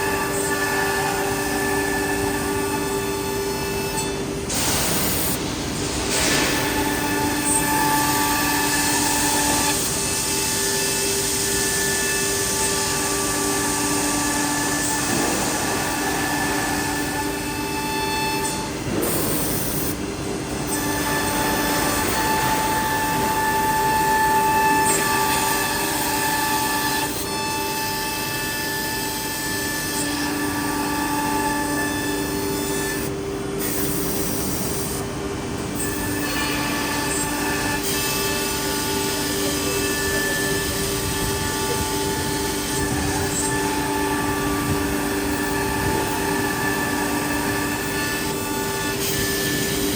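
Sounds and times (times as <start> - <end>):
router spindle whine: 0.0 - 4.5, 5.1 - 49.9.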